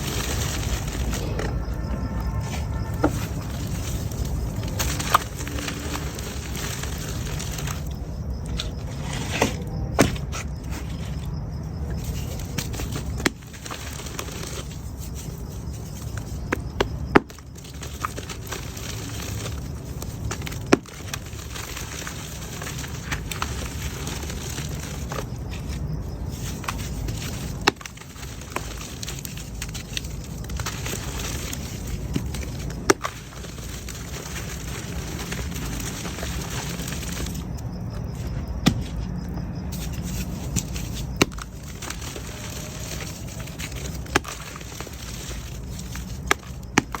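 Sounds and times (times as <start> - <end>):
mud crumbling with crackling hiss: 0.0 - 47.0.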